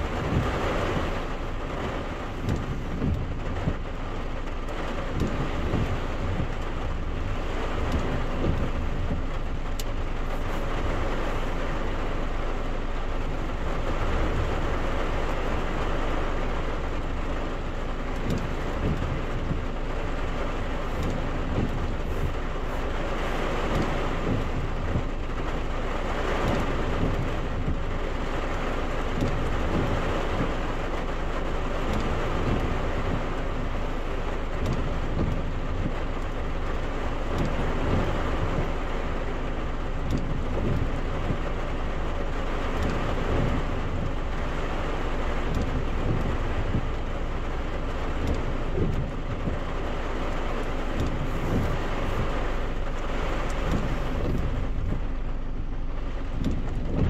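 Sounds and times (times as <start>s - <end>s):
heavy rain on car roof: 0.0s - 57.0s.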